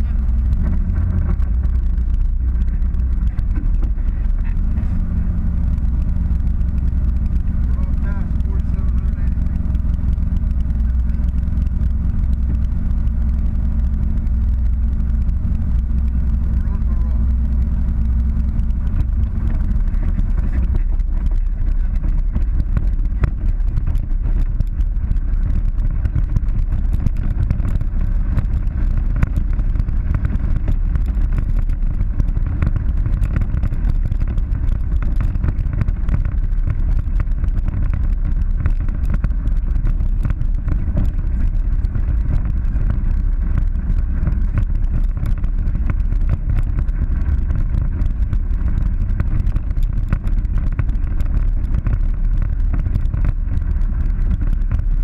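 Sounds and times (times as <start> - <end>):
heavy low rumble: 0.0 - 55.0
vehicle engine running: 0.0 - 55.0.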